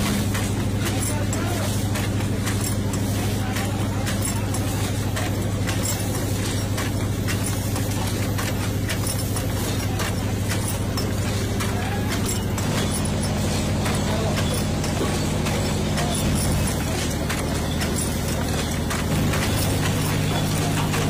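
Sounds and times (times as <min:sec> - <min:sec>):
machine humming: 0:00.0 - 0:21.0
machine mechanism clicking: 0:00.0 - 0:21.0.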